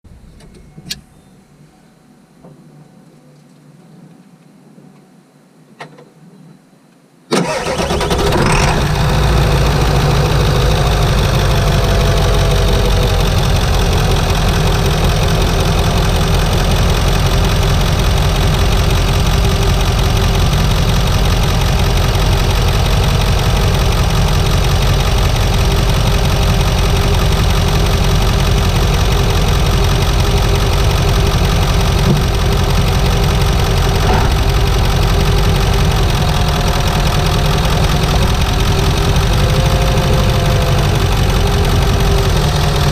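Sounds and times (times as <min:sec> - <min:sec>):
diesel engine starting and idling: 0:07.3 - 0:42.9.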